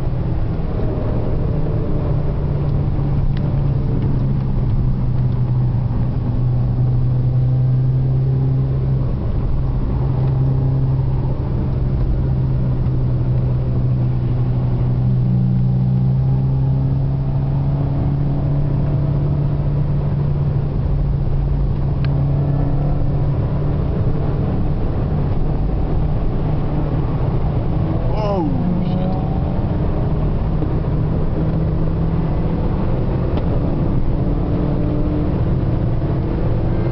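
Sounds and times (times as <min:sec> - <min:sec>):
car engine drone in cabin: 0:00.0 - 0:36.9.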